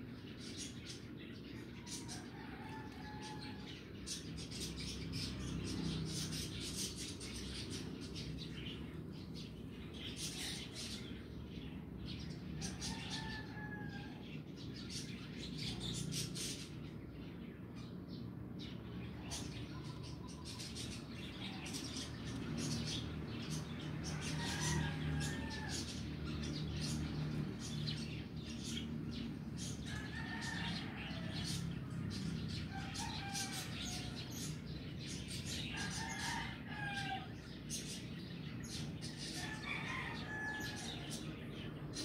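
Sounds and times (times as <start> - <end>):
birds chirping and calling: 0.0 - 42.0.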